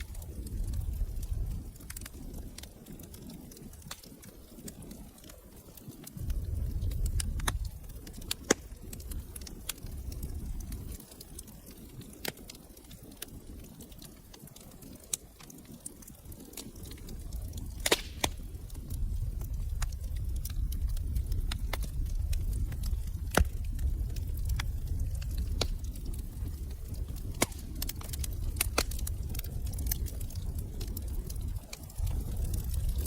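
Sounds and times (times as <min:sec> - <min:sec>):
low rumble of flames: 0:00.0 - 0:33.0
sharp pops of burning wood: 0:00.0 - 0:33.0
wood fire crackling: 0:00.0 - 0:33.0.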